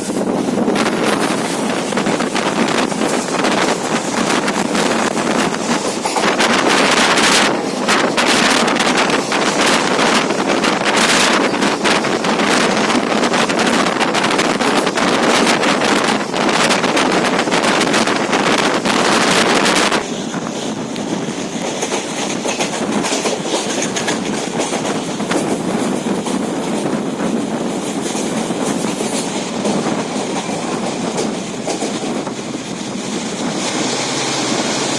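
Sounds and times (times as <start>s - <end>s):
train rushing noise inside carriage: 0.0s - 34.9s.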